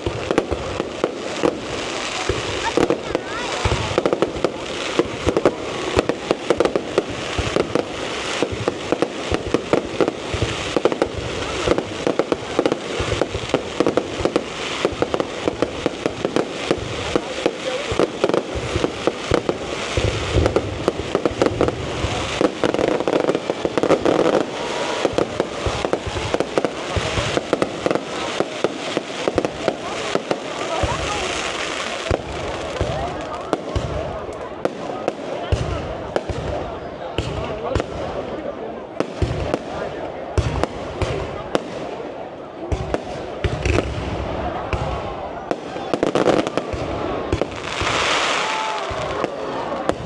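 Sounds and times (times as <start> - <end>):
deep fireworks booms: 0.0 - 50.0
fireworks bangs and crackles: 0.0 - 50.0.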